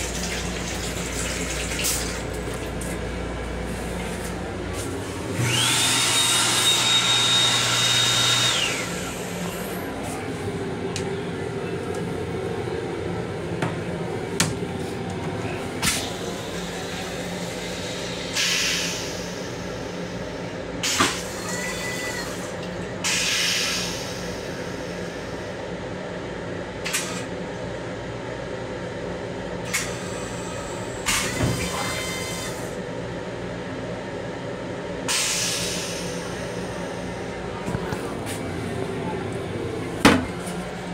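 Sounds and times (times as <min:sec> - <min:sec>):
railcar hum: 0:00.0 - 0:40.9.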